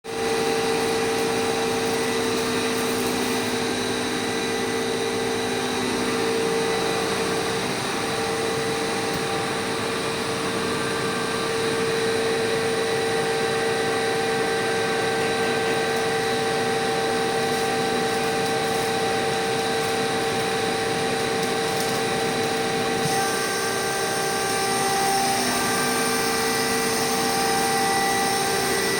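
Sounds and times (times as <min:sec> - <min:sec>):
compressor motor hum with whine: 0:00.1 - 0:28.9.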